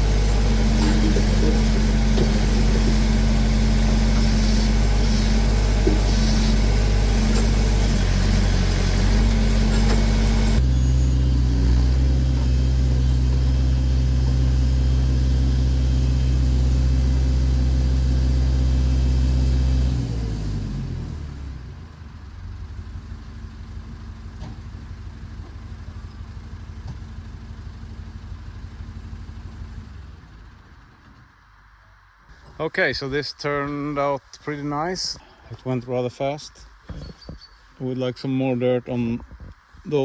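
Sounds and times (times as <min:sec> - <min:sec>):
backhoe engine running: 0:00.0 - 0:40.0.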